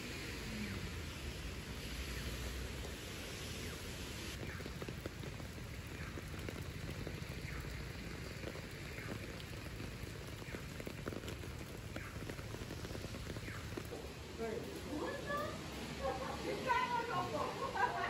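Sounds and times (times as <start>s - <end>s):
rain falling on wet street: 0.0s - 18.0s.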